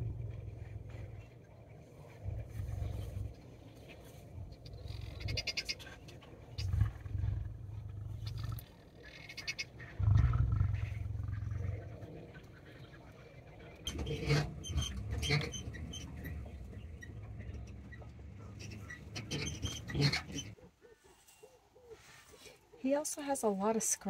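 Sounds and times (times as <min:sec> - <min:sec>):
lions growling: 0:00.0 - 0:22.6.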